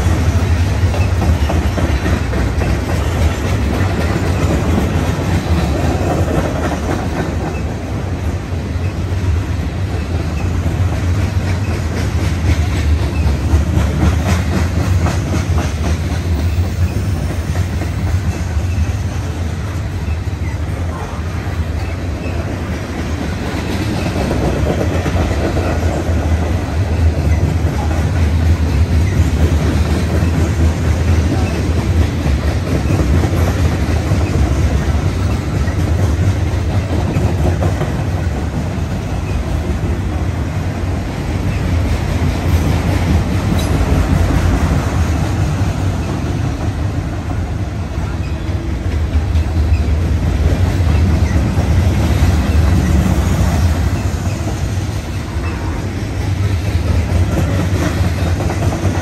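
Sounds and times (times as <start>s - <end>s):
freight train rolling past: 0.0s - 59.0s
wheels clacking over rail joints: 0.0s - 59.0s.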